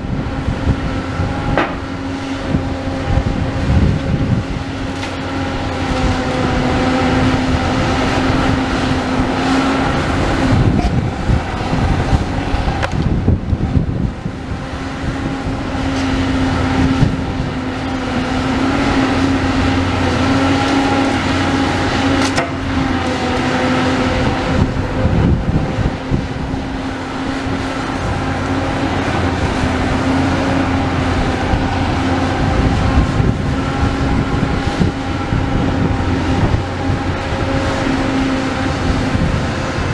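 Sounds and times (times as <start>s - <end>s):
diesel engine and hydraulics humming: 0.0s - 39.9s.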